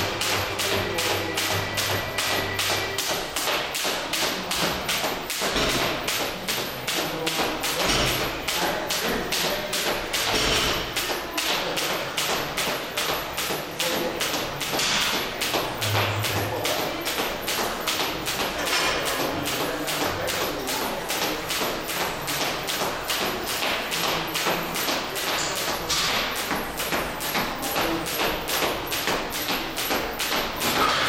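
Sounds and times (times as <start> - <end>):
skipping rope slapping floor: 0.0 - 31.0.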